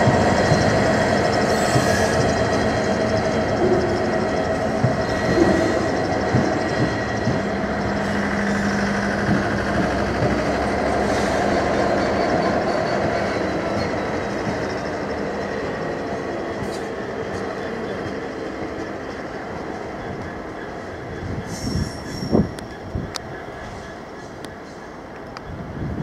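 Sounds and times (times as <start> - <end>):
train wheels knocking on rails: 0.0 - 21.5
diesel locomotive engines running: 0.0 - 26.0.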